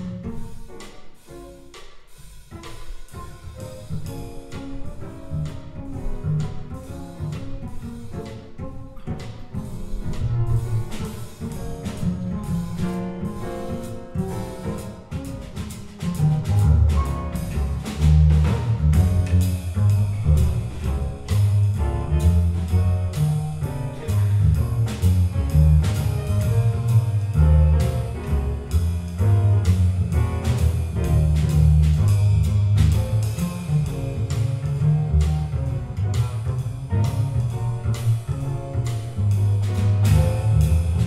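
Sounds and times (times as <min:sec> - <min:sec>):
plucked upright bass: 0:02.6 - 0:41.0.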